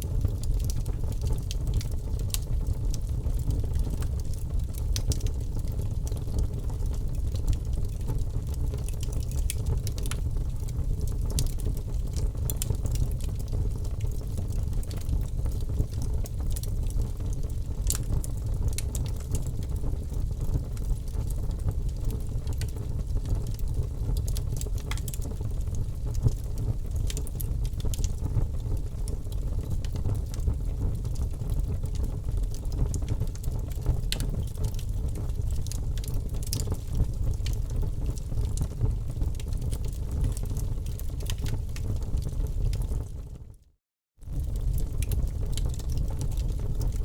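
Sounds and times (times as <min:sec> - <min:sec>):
fire crackling and popping: 0:00.0 - 0:43.2, 0:44.2 - 0:47.0
fire low rumble: 0:00.0 - 0:43.4, 0:44.3 - 0:47.0.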